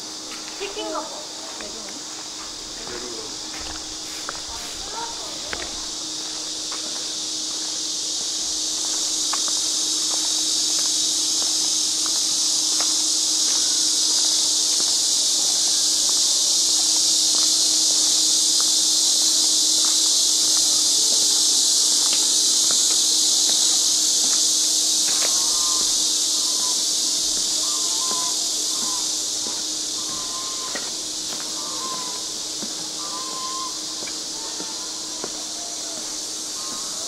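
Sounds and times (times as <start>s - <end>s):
cicadas buzzing: 0.0s - 37.0s.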